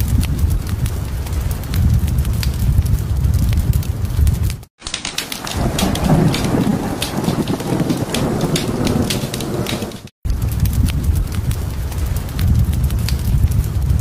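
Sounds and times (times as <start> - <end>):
crackling fireplace: 0.0 - 14.0
rain pattering: 0.0 - 14.0
rumbling thunder: 0.0 - 14.0.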